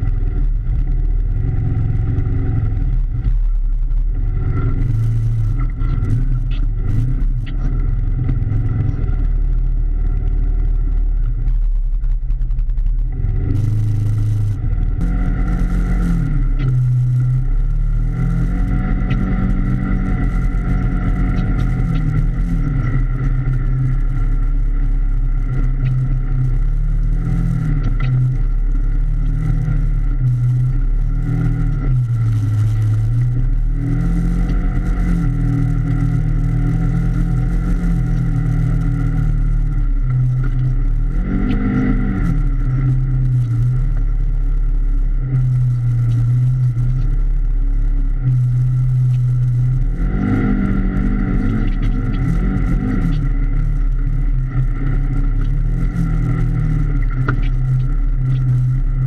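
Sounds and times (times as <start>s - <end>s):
off-road vehicle engine revving: 0.0s - 11.8s, 12.8s - 59.0s.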